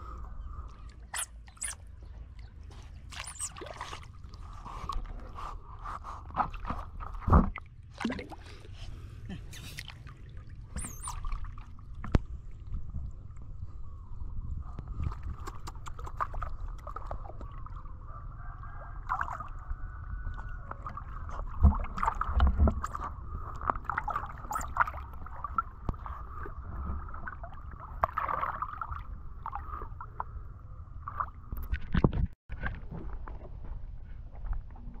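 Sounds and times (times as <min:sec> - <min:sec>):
water sloshing and splashing: 0:00.6 - 0:13.8, 0:14.5 - 0:35.0.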